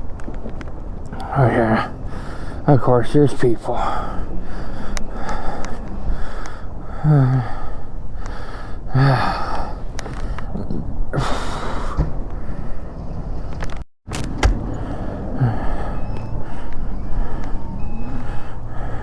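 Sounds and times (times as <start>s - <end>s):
man breathing heavily: 1.1s - 2.7s, 3.6s - 13.5s, 14.6s - 19.0s.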